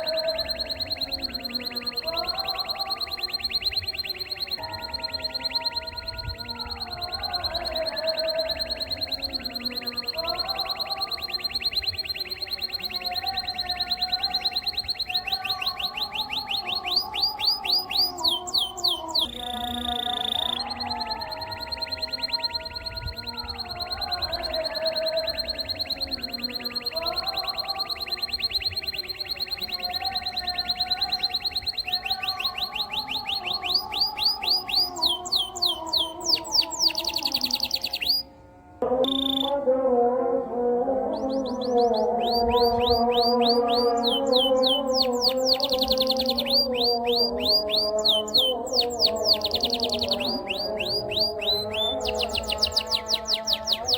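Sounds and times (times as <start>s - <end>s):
canary trilling: 0.0s - 39.6s, 40.9s - 53.9s.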